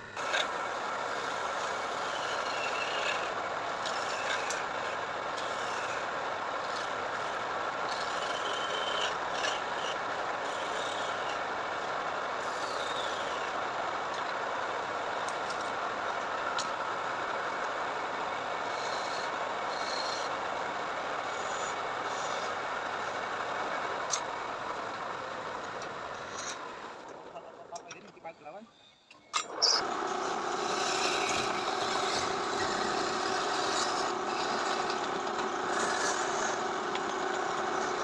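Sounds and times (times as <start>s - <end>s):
machine hissing whir: 0.0s - 15.8s, 16.4s - 25.6s, 28.9s - 38.0s.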